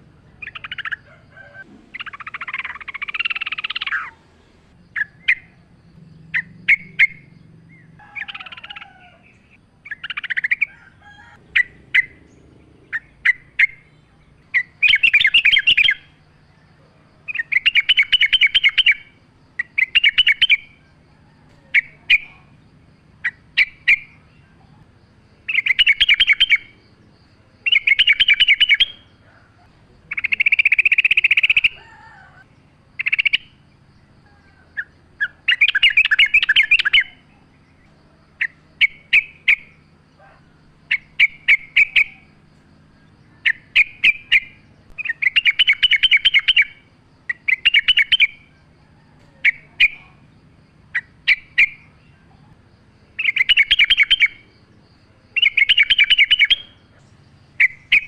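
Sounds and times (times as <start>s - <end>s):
bird singing rapid chattering notes: 0.0s - 10.7s, 11.5s - 31.8s, 32.5s - 58.0s
short clipped bird calls: 0.3s - 54.6s, 55.3s - 58.0s.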